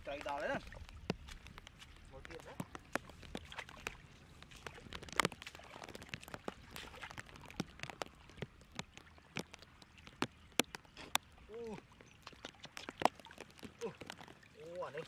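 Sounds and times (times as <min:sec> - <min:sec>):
sharp wet slaps: 0:00.0 - 0:15.0
splashing in muddy water: 0:00.0 - 0:15.0.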